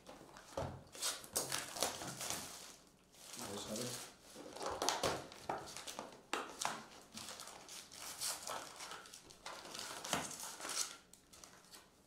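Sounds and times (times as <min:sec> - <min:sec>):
plastic wrap crinkling: 0:01.0 - 0:11.9.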